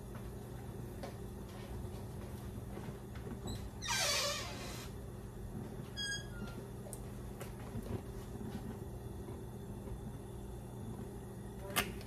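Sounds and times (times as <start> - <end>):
appliance electrical hum: 0.0 - 12.0.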